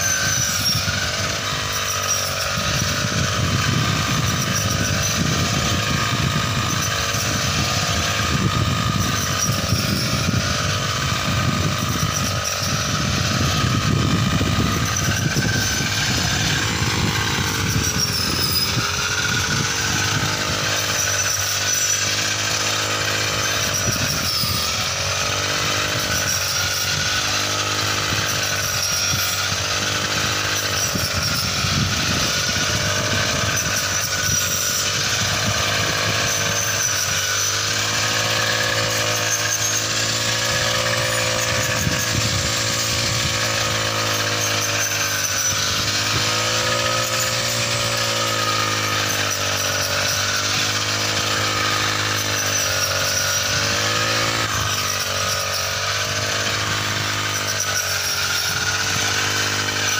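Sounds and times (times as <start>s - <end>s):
blade slicing through rice stalks: 0.0s - 59.9s
petrol engine running at high speed: 0.0s - 59.9s.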